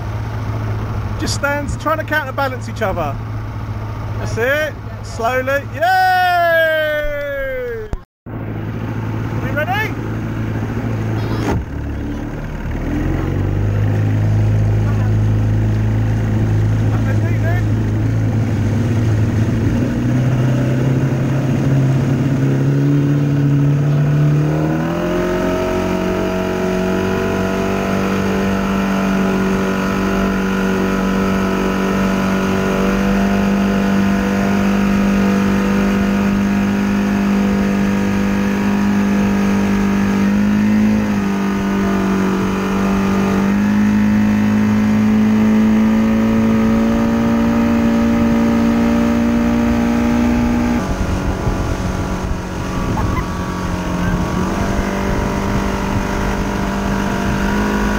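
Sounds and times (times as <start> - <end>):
outboard motor running hard: 0.0 - 57.9.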